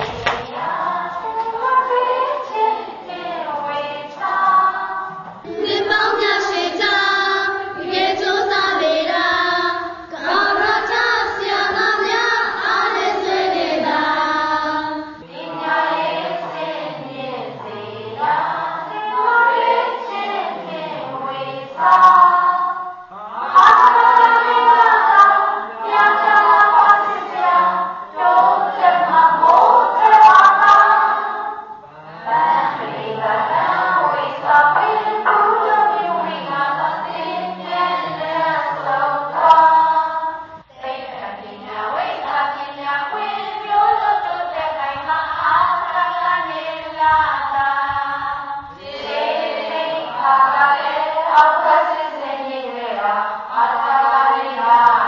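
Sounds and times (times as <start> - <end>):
group of voices singing: 0.0 - 55.0.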